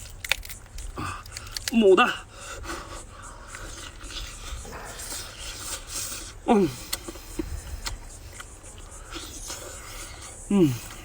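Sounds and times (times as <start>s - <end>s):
eating sounds: 0.0s - 11.0s.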